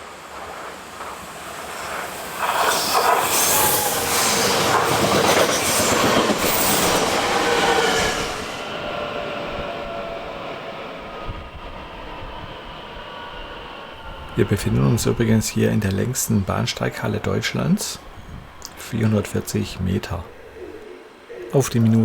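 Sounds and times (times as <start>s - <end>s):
train rail and wheel noise: 0.0s - 21.3s.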